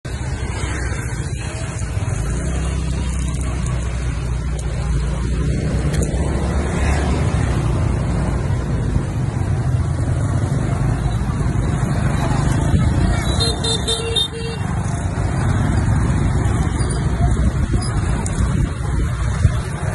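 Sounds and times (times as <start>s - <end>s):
motor scooters riding past: 0.1s - 19.9s.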